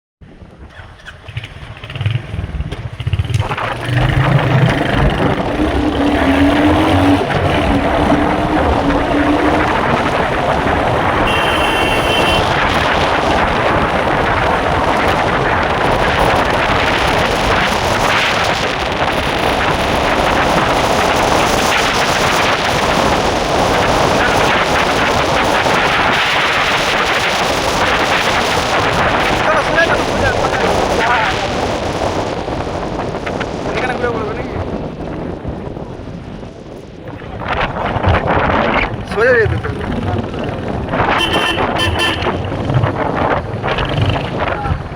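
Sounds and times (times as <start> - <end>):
wind and road noise: 0.2 - 44.9
motorcycle engine running: 0.3 - 34.0, 37.2 - 44.9.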